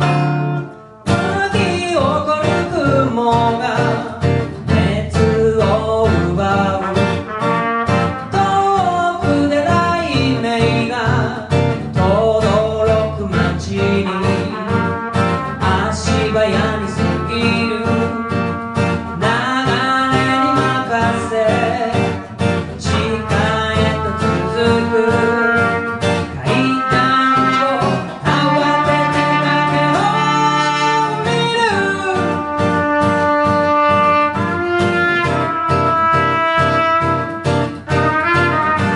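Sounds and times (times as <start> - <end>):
acoustic guitar rhythm: 0.0 - 38.9.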